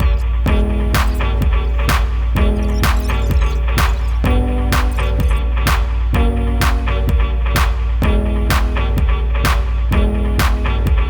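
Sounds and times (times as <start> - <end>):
electronic music with bass beat: 0.0 - 11.0.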